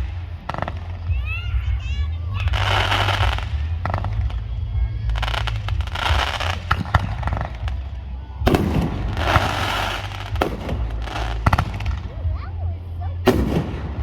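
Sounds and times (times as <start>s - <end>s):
firework crackling: 0.0s - 14.0s.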